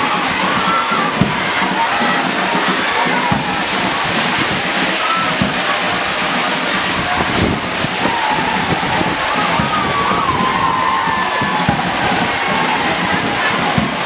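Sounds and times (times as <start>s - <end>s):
crowd singing and calling: 0.0s - 14.0s
heavy rain pouring: 0.0s - 14.0s.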